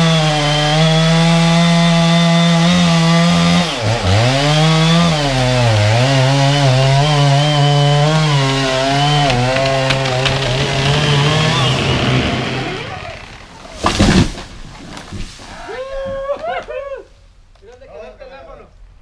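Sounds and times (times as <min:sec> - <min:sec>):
chainsaw cutting wood: 0:00.0 - 0:15.2.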